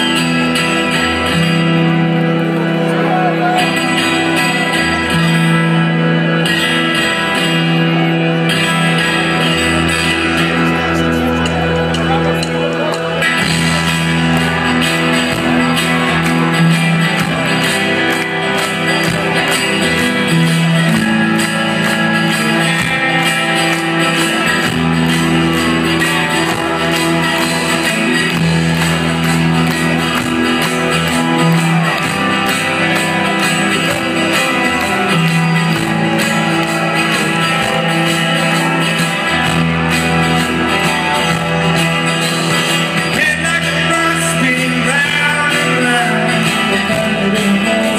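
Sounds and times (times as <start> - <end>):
bass guitar: 0.0 - 47.9
electric guitars: 0.0 - 47.9.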